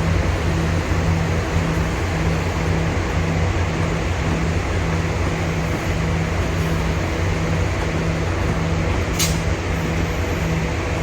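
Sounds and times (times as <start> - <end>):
train idling rumble: 0.0 - 11.0.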